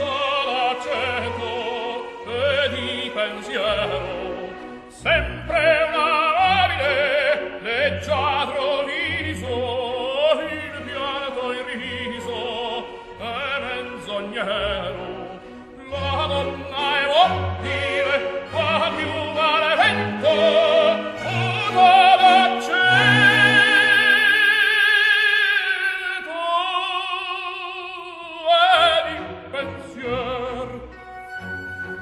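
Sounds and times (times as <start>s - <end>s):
orchestra playing: 0.0s - 27.0s, 28.2s - 32.0s
operatic singing: 0.0s - 32.0s.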